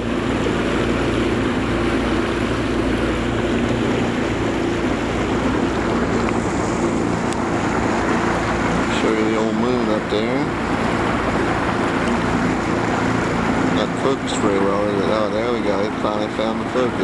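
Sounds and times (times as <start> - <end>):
outboard motor running: 0.0 - 17.0
water rushing past hull: 0.0 - 17.0.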